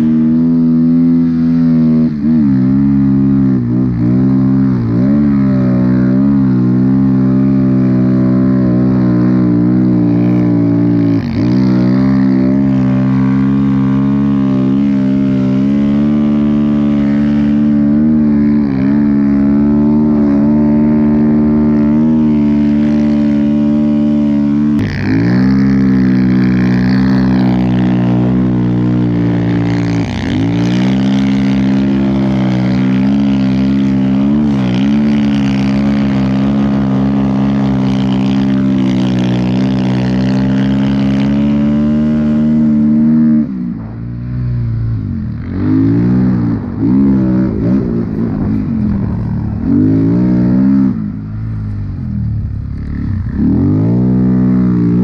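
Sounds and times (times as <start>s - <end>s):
dirt bike engine revving hard: 0.0s - 43.8s, 45.3s - 51.4s
track churning through snow: 0.0s - 55.0s.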